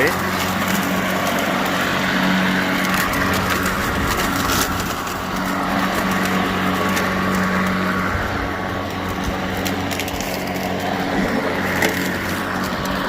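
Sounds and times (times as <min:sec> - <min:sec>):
lawn mower running: 0:00.0 - 0:13.0
leaf debris crackling: 0:00.0 - 0:13.0.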